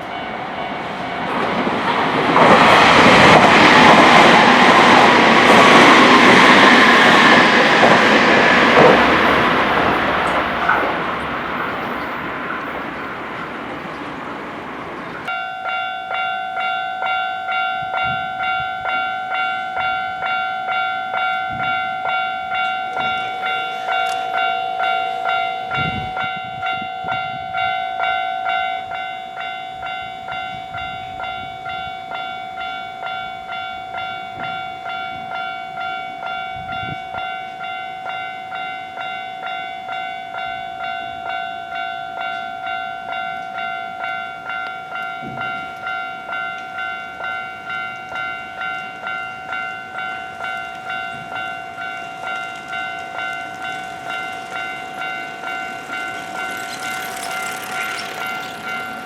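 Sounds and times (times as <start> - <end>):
level-crossing warning bell: 0.0 - 59.0
passing train rumble: 0.0 - 59.0.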